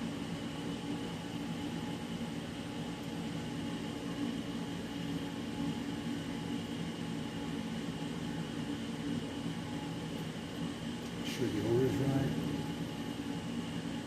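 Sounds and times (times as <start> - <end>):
machinery hum with hiss: 0.0 - 14.0.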